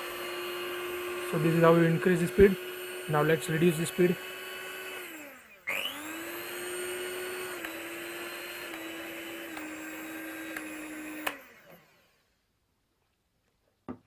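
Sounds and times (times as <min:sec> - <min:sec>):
hand mixer motor whining: 0:00.0 - 0:12.2.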